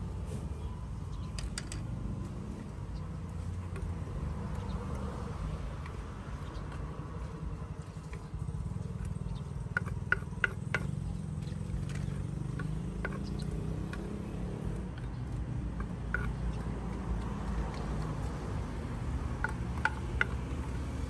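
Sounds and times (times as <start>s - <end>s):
street rumble: 0.0s - 21.0s.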